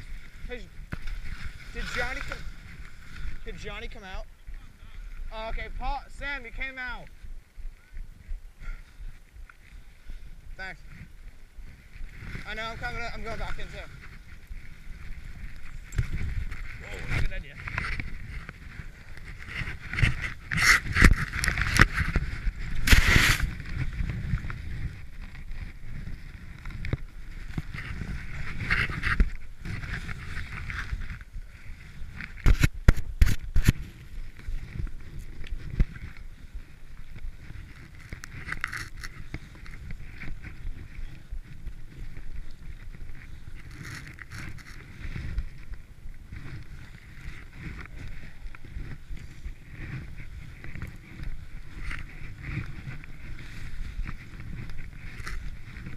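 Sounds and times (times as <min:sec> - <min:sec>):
skis swishing through powder: 0:00.0 - 0:04.0, 0:11.0 - 0:32.7, 0:33.6 - 0:55.9.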